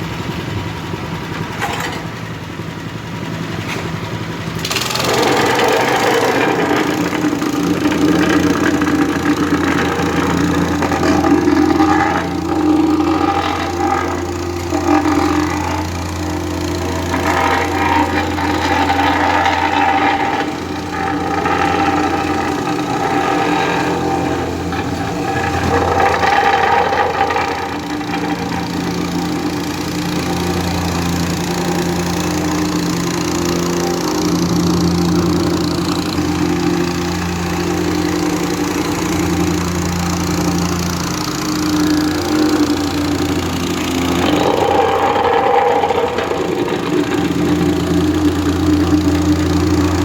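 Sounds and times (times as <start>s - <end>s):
low engine drone: 0.0s - 50.0s
mechanical scraping and rattle: 0.0s - 50.0s.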